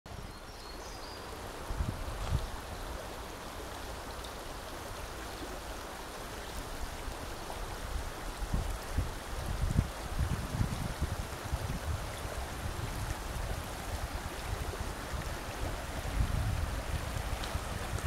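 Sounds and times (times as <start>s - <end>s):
creek babbling over stones: 0.1s - 18.0s.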